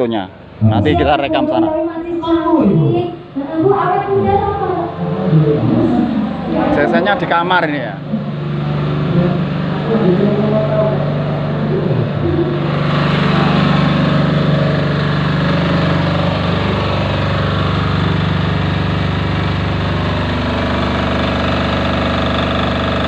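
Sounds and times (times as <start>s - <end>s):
diesel generator running: 0.0s - 23.0s.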